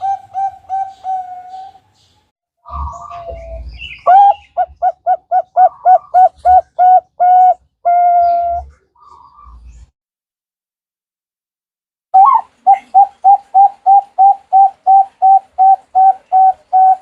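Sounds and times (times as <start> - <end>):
dove cooing: 0.0 - 2.0, 2.6 - 9.8, 12.2 - 17.0.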